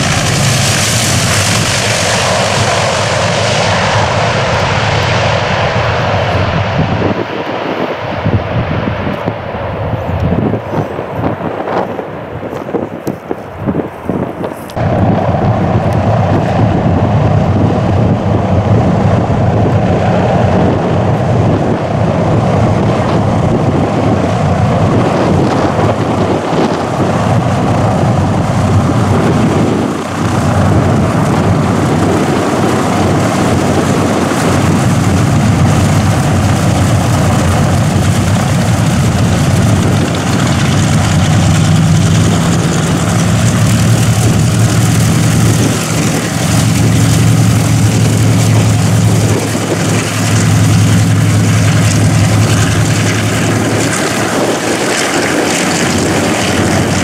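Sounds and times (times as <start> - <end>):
propeller engine drone: 0.0 - 57.0.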